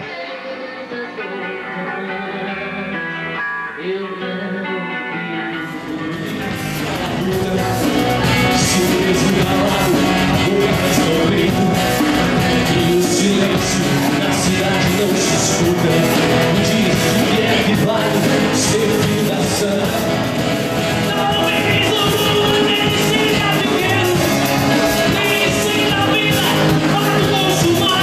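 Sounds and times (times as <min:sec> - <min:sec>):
man singing: 0:00.0 - 0:28.0
rock band playing: 0:00.0 - 0:28.0.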